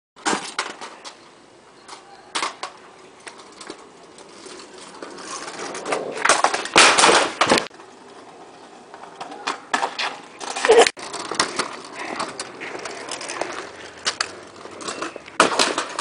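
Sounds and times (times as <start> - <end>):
scooter wheels rolling on asphalt: 0.2 - 16.0.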